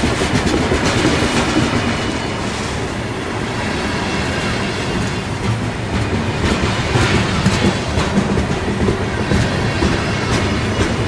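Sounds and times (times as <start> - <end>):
wheels clacking over rail joints: 0.0 - 3.0, 3.6 - 11.0
train wheels rumbling on rail: 0.0 - 11.0.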